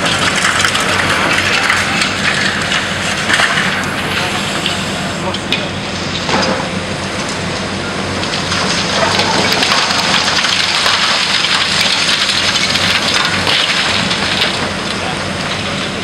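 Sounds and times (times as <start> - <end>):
concrete debris crackling: 0.0 - 16.0
excavator engine hum: 0.0 - 16.0.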